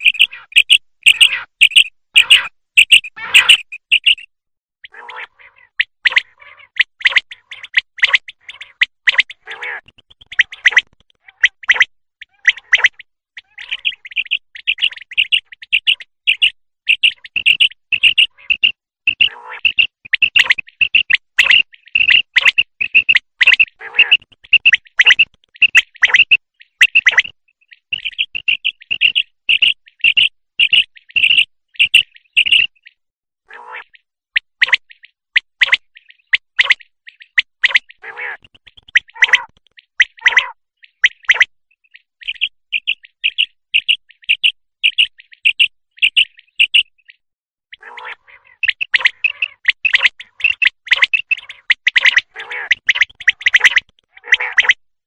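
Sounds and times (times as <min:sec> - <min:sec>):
quail calling high chirps: 0:00.0 - 0:54.8.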